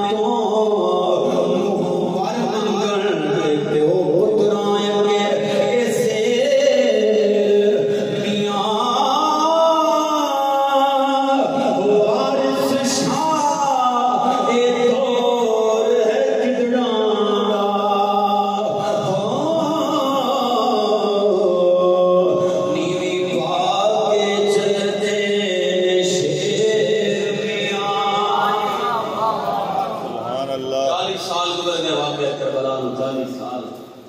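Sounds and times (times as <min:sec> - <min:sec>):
man chanting: 0:00.0 - 0:34.0.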